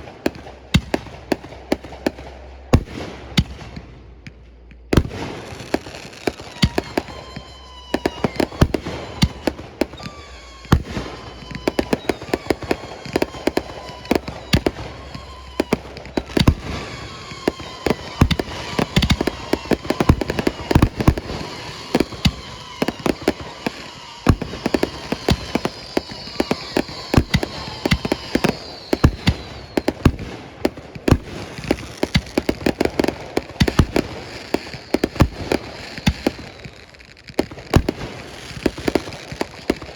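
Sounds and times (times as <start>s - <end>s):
fireworks bangs and crackles: 0.0s - 39.9s
descending firework whistles: 5.0s - 39.9s.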